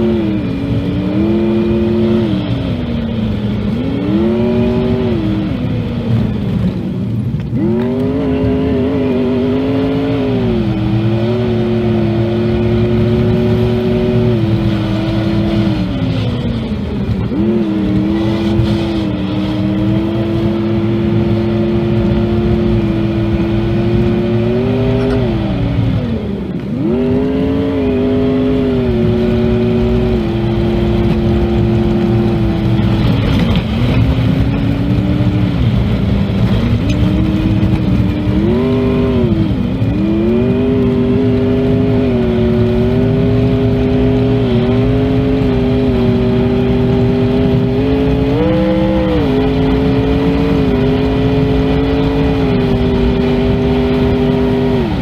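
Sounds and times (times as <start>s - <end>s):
car engine pulling under load: 0.0s - 55.0s.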